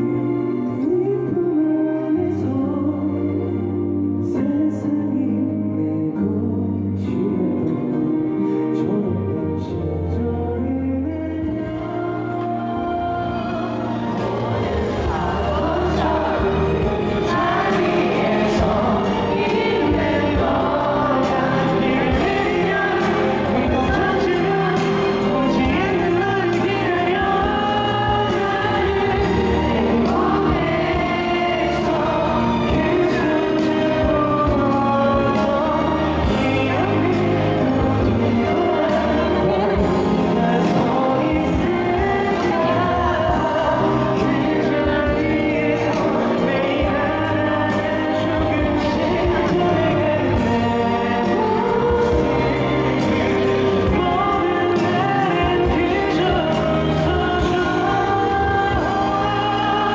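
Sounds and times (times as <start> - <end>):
live band accompaniment: 0.0 - 59.9
man singing ballad: 0.0 - 59.9.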